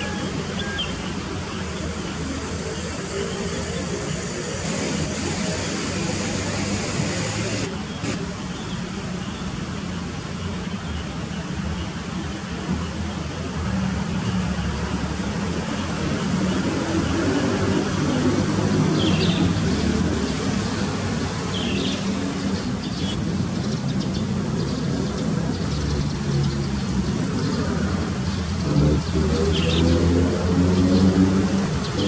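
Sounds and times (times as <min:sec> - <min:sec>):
low rumble of traffic: 0:00.0 - 0:32.0.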